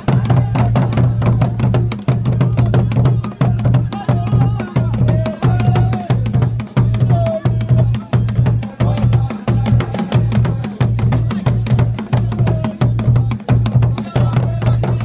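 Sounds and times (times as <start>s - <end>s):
large drum in fast rhythm: 0.0s - 15.0s
voices singing or calling: 0.0s - 15.0s.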